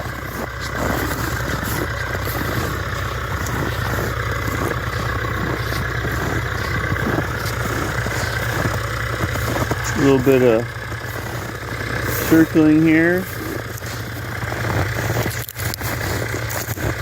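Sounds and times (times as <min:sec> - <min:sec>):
engine idling: 0:00.0 - 0:17.0
footsteps crunching in snow: 0:00.0 - 0:17.0.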